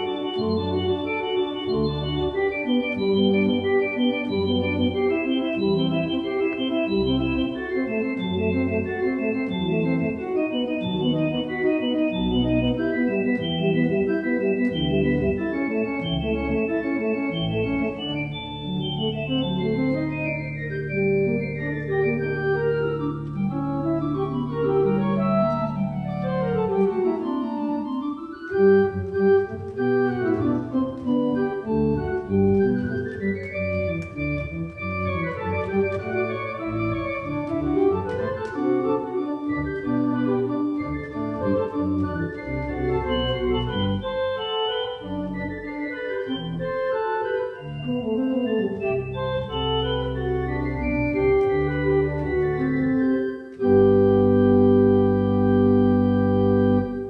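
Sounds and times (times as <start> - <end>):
church organ playing: 0.0 - 57.0.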